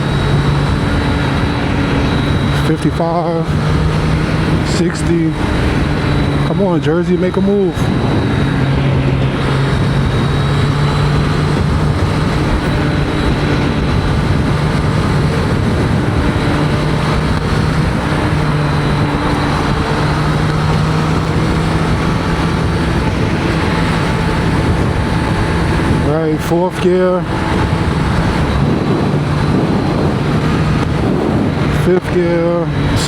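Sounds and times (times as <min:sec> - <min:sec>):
motorcycle engine droning: 0:00.0 - 0:33.0
wind rush over helmet: 0:00.0 - 0:33.0.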